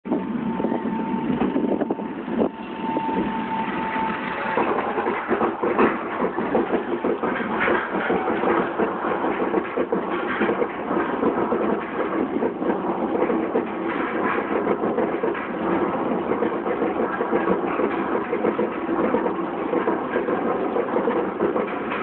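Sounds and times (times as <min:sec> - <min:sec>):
roller coaster chain lift rattling: 0:03.1 - 0:22.0.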